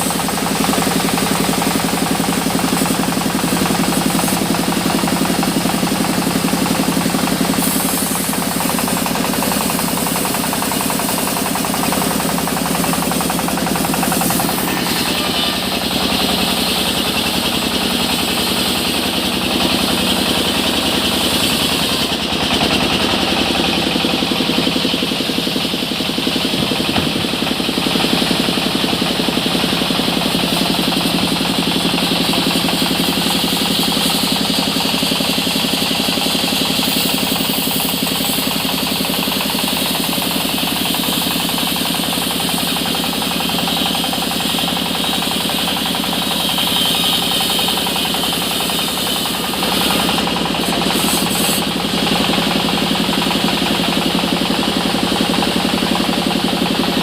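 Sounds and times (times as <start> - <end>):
engine-driven saw cutting timber: 0.0 - 57.0.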